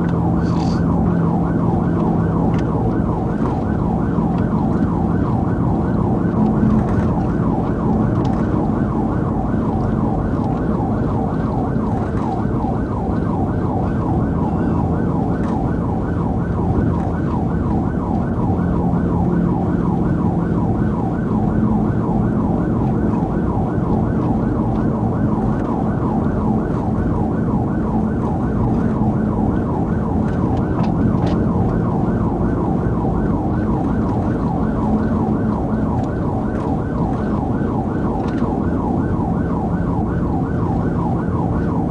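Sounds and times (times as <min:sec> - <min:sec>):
engine and road noise: 0:00.0 - 0:41.9
police siren yelping: 0:00.0 - 0:41.9.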